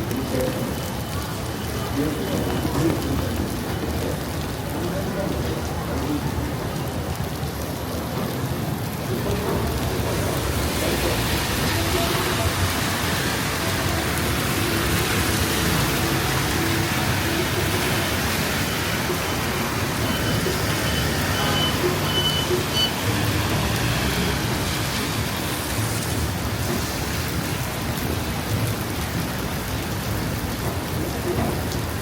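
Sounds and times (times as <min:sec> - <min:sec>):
low rumble of traffic: 0:00.0 - 0:32.0
rain falling on street: 0:00.0 - 0:32.0.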